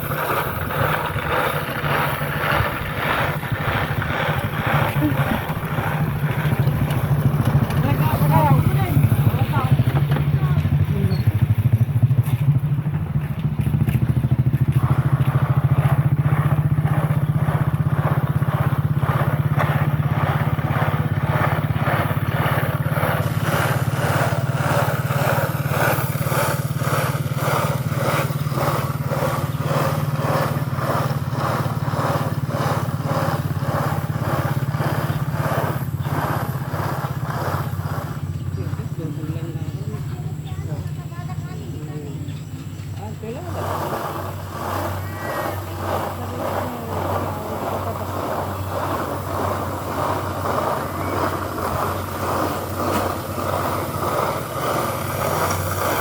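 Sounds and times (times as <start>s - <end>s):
rhythmic pulsing: 0.0s - 56.0s
small engine running: 0.0s - 56.0s.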